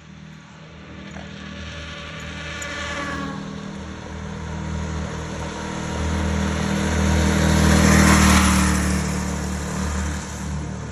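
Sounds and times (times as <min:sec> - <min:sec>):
small engine running at speed: 0:00.0 - 0:10.9.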